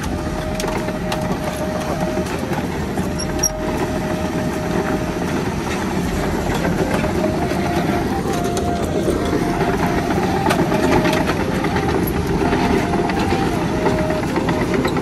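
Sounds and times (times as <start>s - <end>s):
diesel engine running: 0.0s - 15.0s
thin whine: 0.0s - 15.0s.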